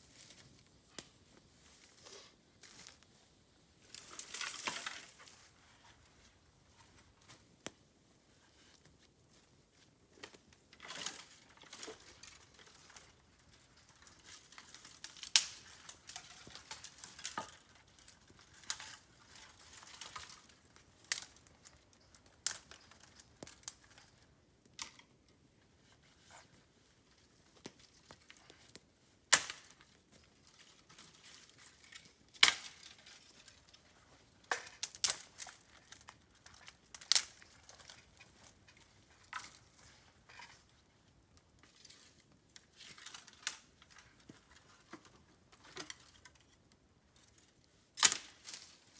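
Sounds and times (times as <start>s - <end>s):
bamboo crackling in fire: 0.0s - 48.9s.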